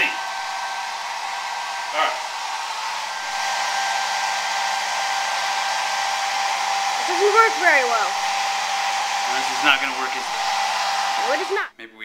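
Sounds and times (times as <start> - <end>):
hair dryer running: 0.0 - 11.7.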